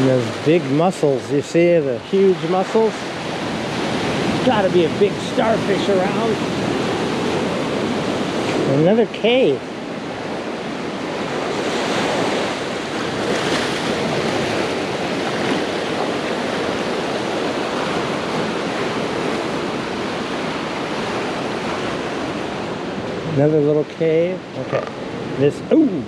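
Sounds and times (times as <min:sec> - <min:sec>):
surf breaking on rocky shore: 0:00.0 - 0:23.7
wind buffeting microphone: 0:00.0 - 0:26.0.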